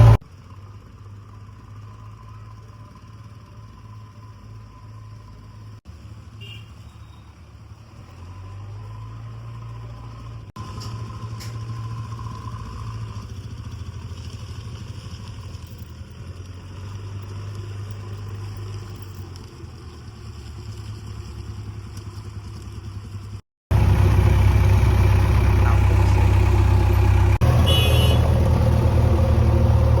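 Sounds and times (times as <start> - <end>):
diesel engine running: 0.0 - 6.4, 7.0 - 30.0.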